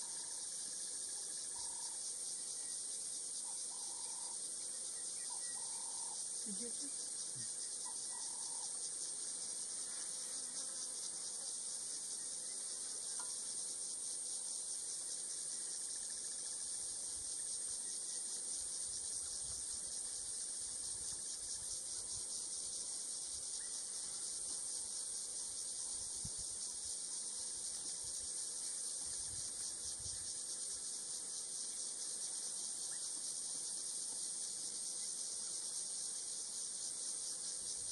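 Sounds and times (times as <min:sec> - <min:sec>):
insects trilling: 0:00.0 - 0:37.9.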